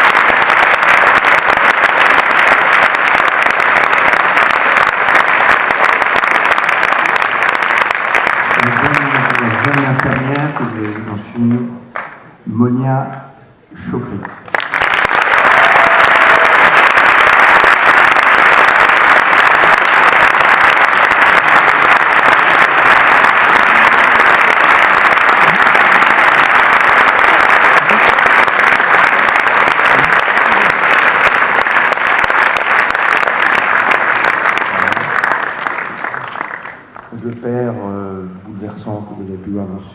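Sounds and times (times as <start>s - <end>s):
audience applauding: 0.0s - 12.3s, 14.2s - 37.7s.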